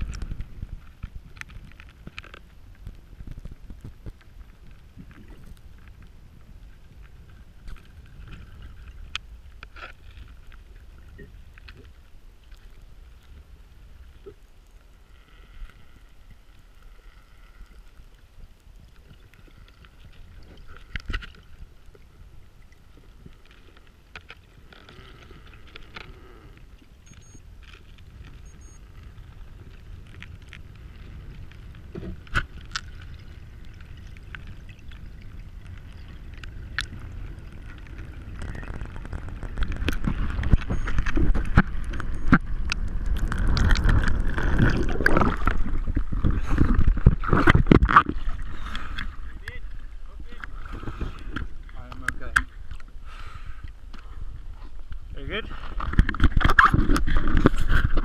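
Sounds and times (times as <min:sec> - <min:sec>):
low underwater rumble: 0:00.0 - 0:58.0.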